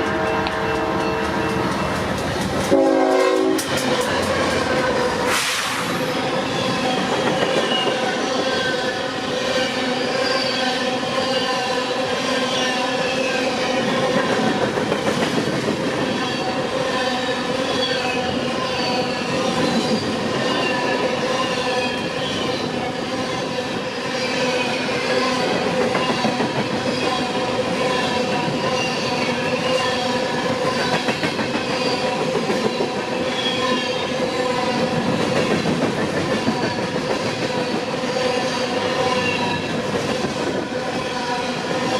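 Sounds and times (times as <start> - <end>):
freight train rumbling past: 0.0 - 41.9
train wheels squealing on rail: 0.0 - 41.9.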